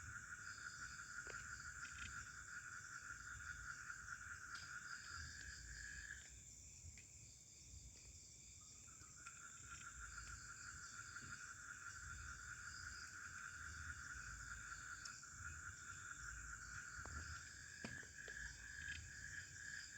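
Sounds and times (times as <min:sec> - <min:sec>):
forest insects trilling: 0:00.0 - 0:06.5, 0:07.5 - 0:19.9.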